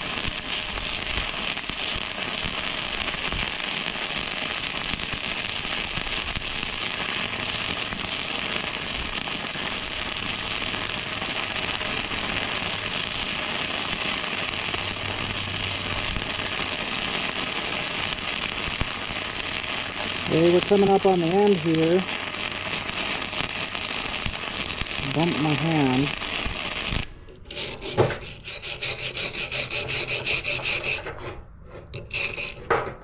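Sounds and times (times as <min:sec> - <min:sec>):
welding arc crackling: 0:00.0 - 0:27.1.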